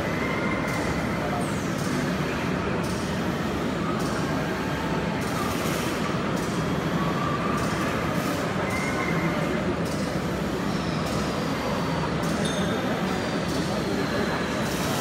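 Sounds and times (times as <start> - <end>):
hum of machinery and ventilation: 0.0 - 15.0.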